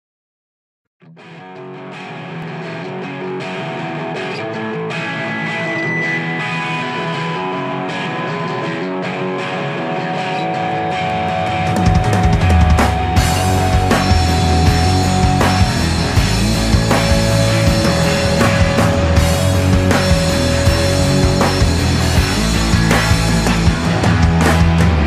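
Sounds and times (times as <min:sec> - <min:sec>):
layered guitar chords: 0:01.0 - 0:25.0.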